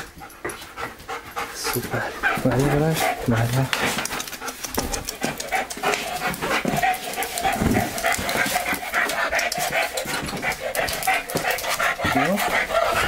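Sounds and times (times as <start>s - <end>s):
dog panting and sniffing: 0.0s - 13.0s.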